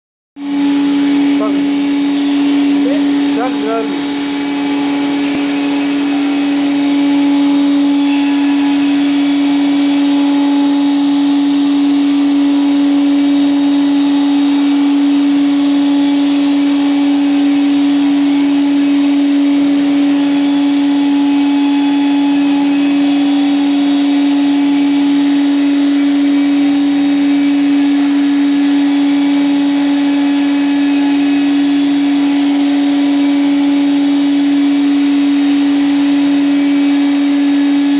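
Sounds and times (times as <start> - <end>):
woodworking machine humming: 0.4 - 37.9.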